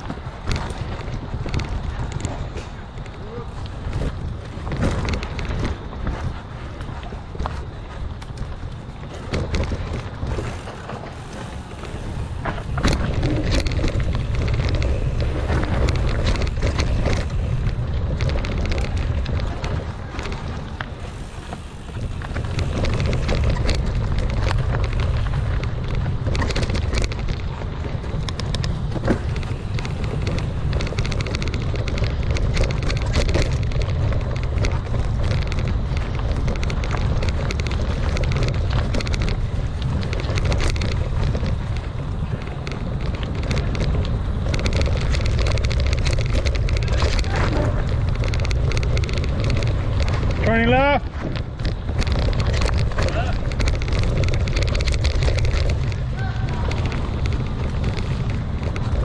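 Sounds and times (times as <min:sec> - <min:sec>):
bike clicks and rattles: 0:00.0 - 0:59.0
bike tyres on dirt trail: 0:00.0 - 0:59.0
wind on camera microphone: 0:00.0 - 0:59.0.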